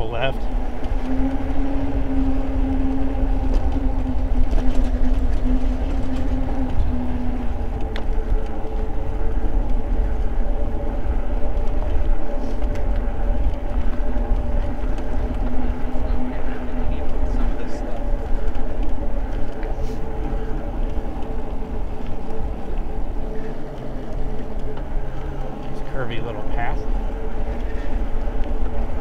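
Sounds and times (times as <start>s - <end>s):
electric motor whine: 0.0s - 29.0s
wind and tyre rumble: 0.0s - 29.0s.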